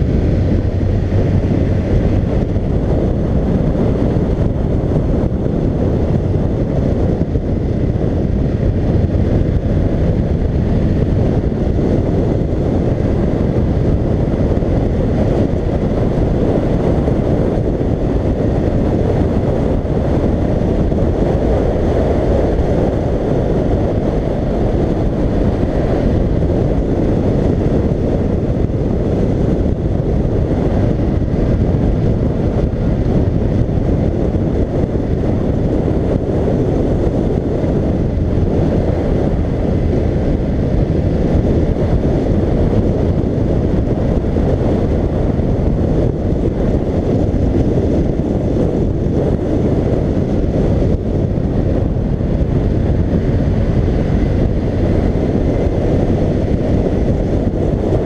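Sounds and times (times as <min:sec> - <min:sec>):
motorcycle engine and tyre noise: 0:00.0 - 0:58.0
wind rushing over microphone: 0:00.0 - 0:58.0.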